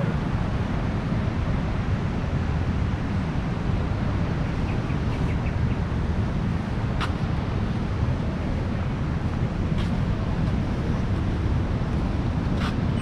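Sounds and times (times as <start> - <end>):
ocean surf: 0.0 - 13.0
wind on microphone rumble: 0.0 - 13.0.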